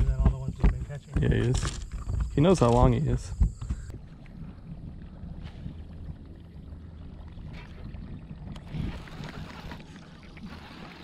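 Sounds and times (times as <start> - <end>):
boat engine rumble: 0.0 - 11.0
wind on microphone: 0.0 - 11.0.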